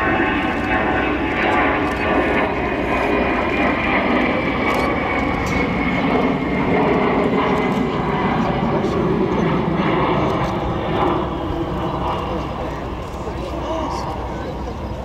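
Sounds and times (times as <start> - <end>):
jet aircraft flying overhead: 0.0 - 15.0.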